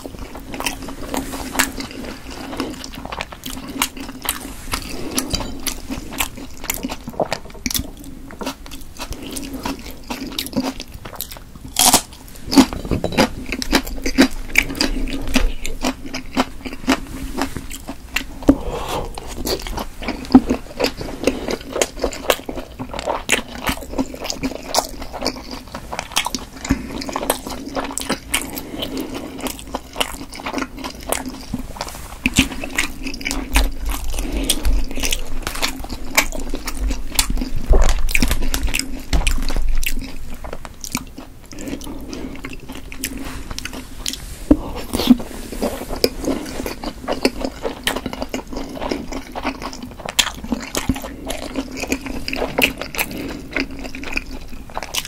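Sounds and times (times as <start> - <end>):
wet chewing and lip smacking: 0.0 - 55.0.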